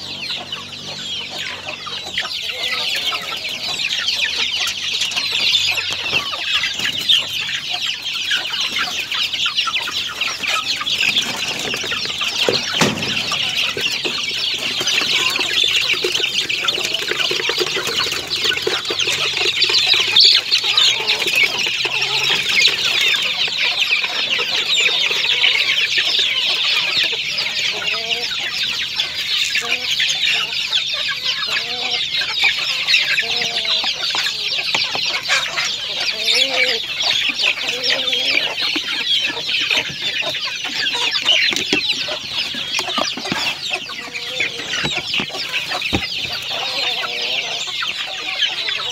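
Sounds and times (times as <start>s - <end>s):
chickens clucking: 0.0s - 48.9s
high-pitched chirping chorus: 0.0s - 48.9s.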